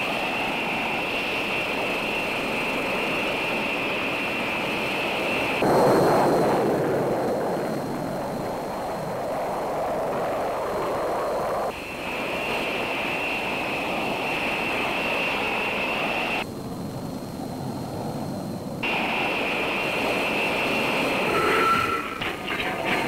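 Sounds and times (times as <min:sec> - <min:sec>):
jet engine high whine: 0:00.0 - 0:23.0
jet engine roar: 0:00.0 - 0:23.0.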